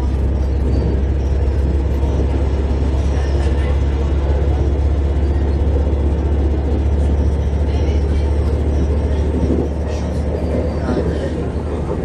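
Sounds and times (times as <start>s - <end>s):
diesel engine drone: 0.0s - 12.0s
rail rolling noise: 0.0s - 12.0s.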